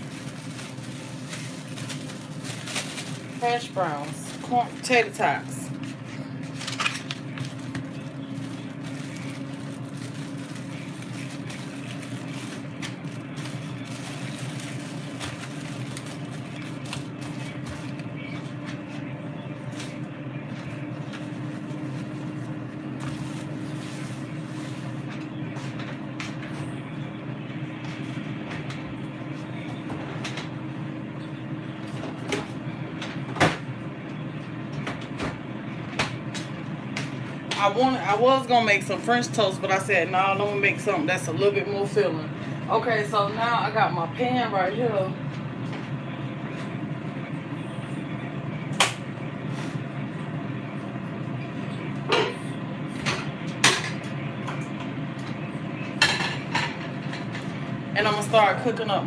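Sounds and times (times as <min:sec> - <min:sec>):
air fryer fan whirring: 0:00.0 - 0:59.0.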